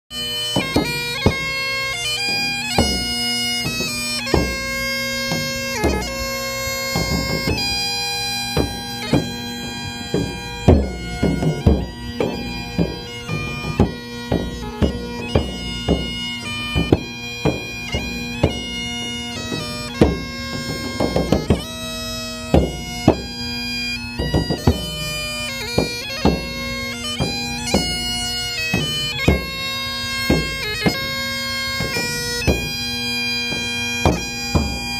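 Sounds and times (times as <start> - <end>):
bagpipe melody with drone: 0.1 - 34.9
drum strokes: 0.3 - 34.9.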